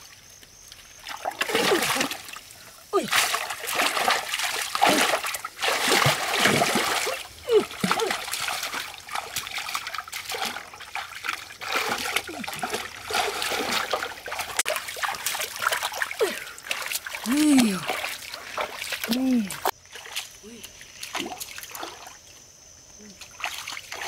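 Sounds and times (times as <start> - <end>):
stream water splashing: 0.0 - 22.5, 23.2 - 24.0.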